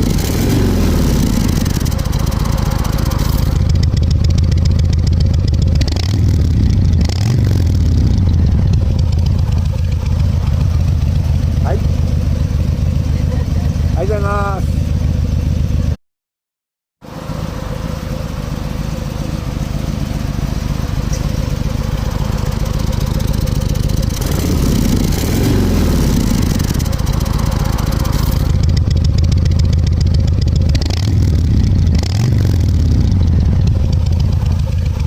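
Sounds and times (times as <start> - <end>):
motorcycle engine revving: 0.0 - 16.0, 17.0 - 35.0.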